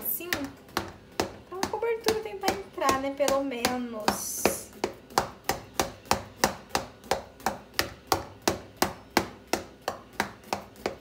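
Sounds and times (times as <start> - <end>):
utensil tapping into cake pan: 0.0 - 11.0.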